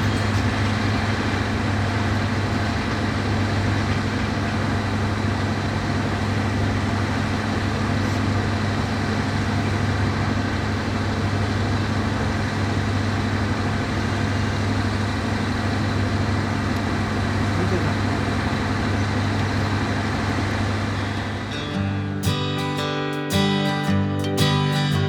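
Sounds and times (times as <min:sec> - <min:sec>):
diesel locomotive engine idling: 0:00.0 - 0:22.8.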